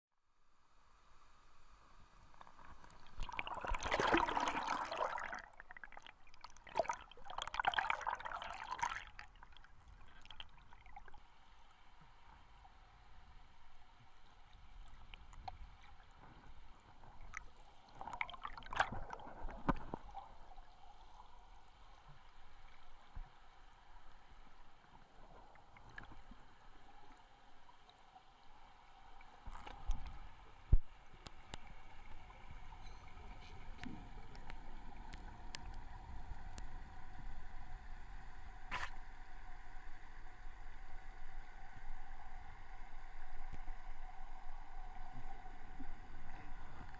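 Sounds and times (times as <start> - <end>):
faint underwater hiss: 0.4 - 46.9.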